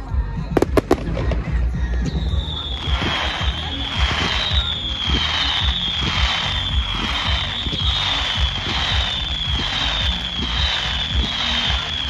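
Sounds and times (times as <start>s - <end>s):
fireworks bangs: 0.6s - 12.0s
fireworks crackling: 0.6s - 12.0s
firework whistle falling in pitch: 2.0s - 12.0s.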